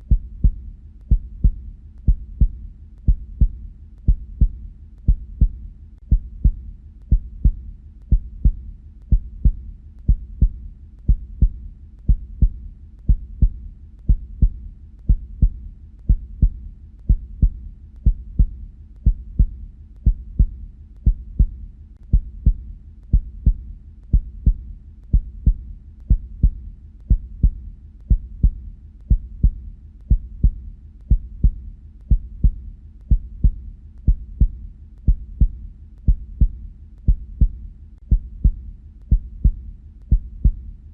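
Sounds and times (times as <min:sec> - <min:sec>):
heartbeat thuds: 0:00.0 - 0:40.8.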